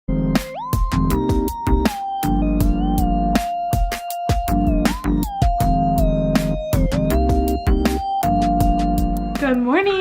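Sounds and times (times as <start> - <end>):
electronic music with synth lead: 0.1 - 10.0.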